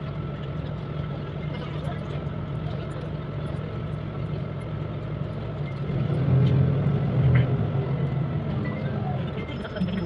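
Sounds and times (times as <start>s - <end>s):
bus engine and road hum: 0.0s - 10.0s.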